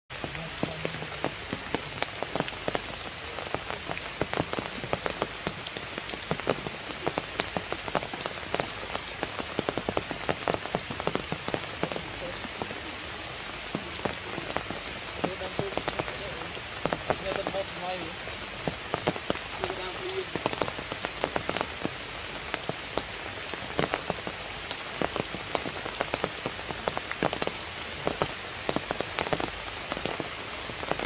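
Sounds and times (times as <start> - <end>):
close raindrops hitting sharply: 0.1 - 31.0
heavy rain falling: 0.1 - 31.0.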